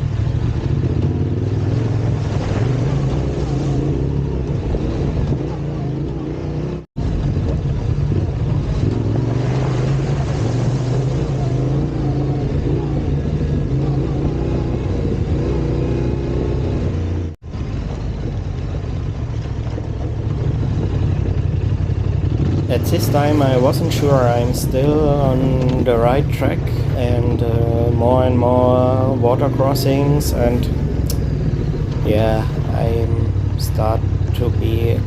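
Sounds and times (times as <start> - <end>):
off-road motorcycle engine: 0.0 - 35.0.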